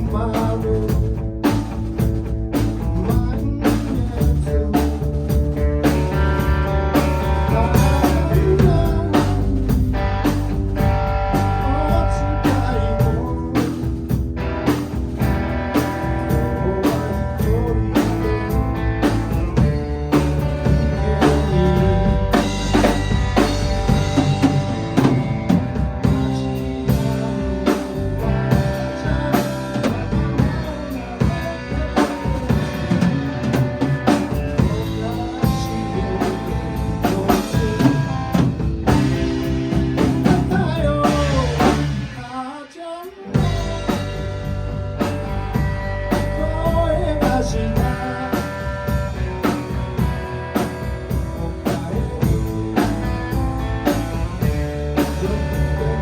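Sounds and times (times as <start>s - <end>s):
drum rimshots: 0.0s - 56.0s
rock band playing: 0.0s - 56.0s.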